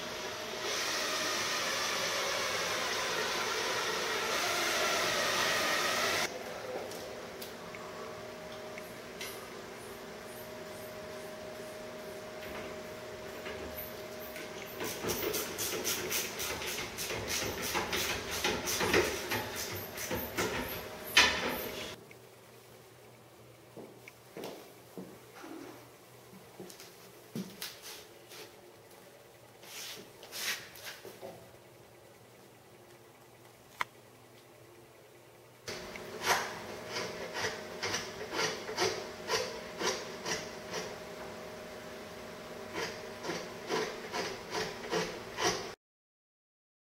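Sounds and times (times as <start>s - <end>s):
steady hum: 0.0s - 45.8s.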